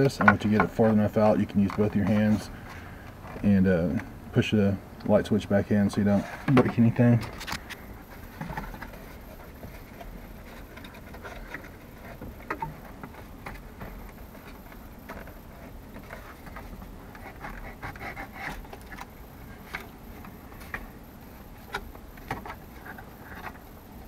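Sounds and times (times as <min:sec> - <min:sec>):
plastic scraping and rubbing: 0:00.0 - 0:04.2, 0:05.1 - 0:24.0.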